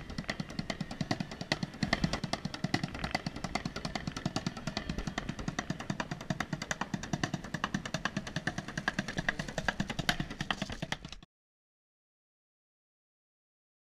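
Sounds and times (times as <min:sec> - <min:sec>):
fast drumming on bucket and boxes: 0:00.0 - 0:11.2.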